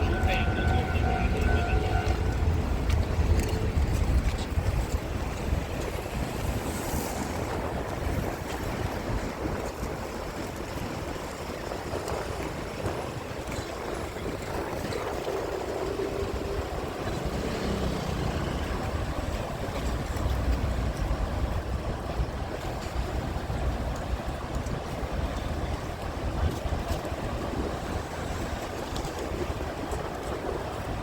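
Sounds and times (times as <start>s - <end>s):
rail vehicle rumbling: 0.0s - 31.0s
wind noise on microphone: 0.0s - 31.0s.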